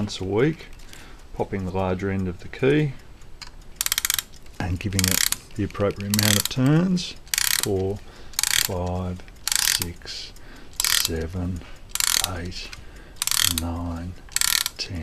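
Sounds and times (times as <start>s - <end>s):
clock winding ratchet clicks: 0.0s - 15.0s.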